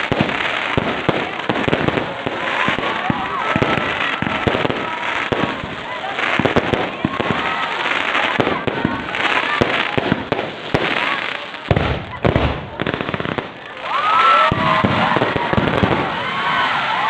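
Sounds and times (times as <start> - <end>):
fireworks bangs and crackles: 0.0 - 17.0
people calling out: 0.0 - 17.0.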